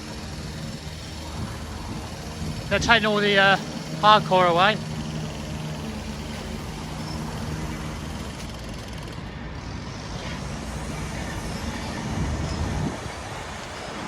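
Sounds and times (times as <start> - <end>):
diesel machinery engines rumbling: 0.0 - 14.0.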